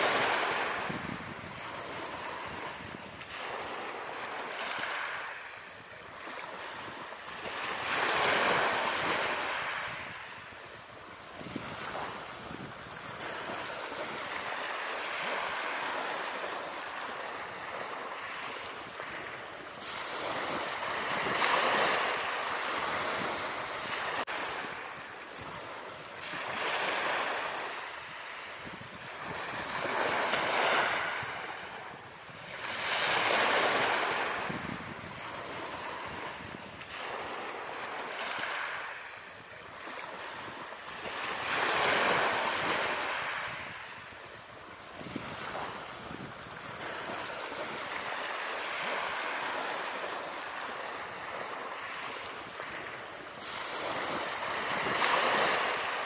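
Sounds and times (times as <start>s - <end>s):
ocean waves washing in: 0.0s - 56.0s.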